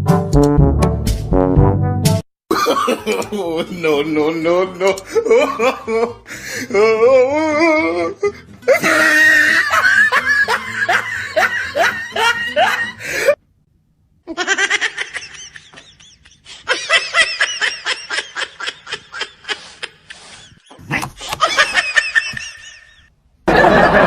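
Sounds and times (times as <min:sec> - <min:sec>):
hearty human laughter: 0:02.5 - 0:13.4, 0:14.3 - 0:24.0.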